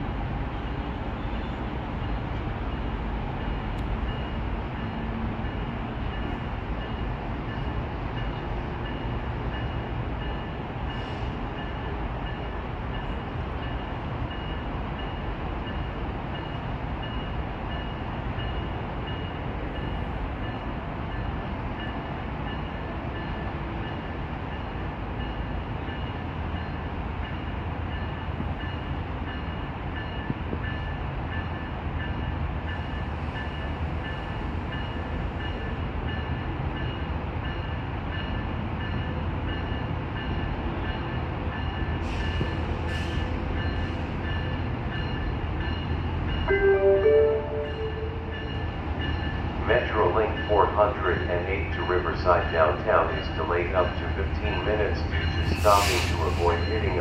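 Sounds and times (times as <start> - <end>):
train locomotive rumbling: 0.0 - 57.0
train bell ringing: 2.0 - 57.0.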